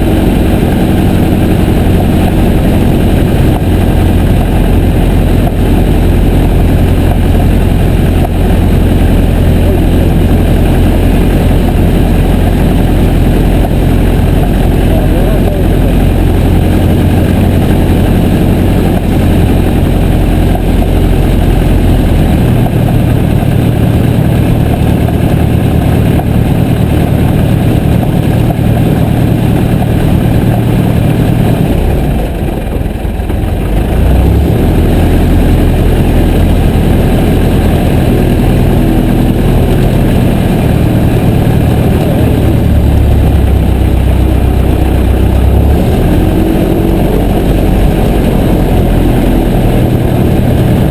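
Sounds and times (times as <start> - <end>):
light aircraft engine drone: 0.0 - 50.9.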